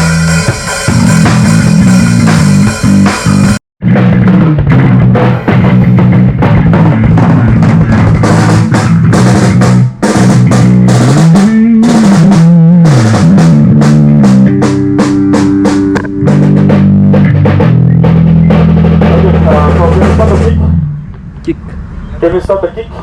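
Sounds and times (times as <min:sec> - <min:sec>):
electric guitar: 0:00.0 - 0:21.2
drum kit: 0:00.0 - 0:21.4
bass guitar line: 0:00.0 - 0:22.2.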